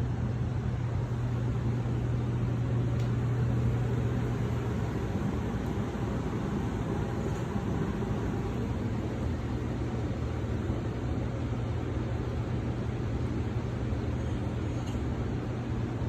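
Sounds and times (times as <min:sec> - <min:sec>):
gas furnace air rush and hum: 0:00.0 - 0:16.0.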